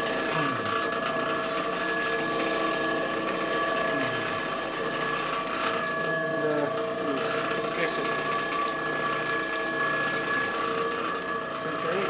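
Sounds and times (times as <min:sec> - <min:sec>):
potter's wheel motor whine: 0:00.0 - 0:12.0.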